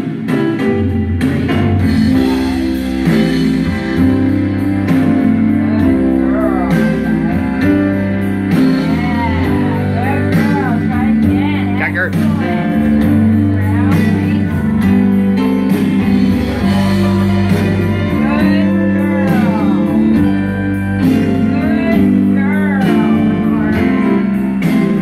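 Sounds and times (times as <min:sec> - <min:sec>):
song with singing over a beat: 0:00.0 - 0:25.0.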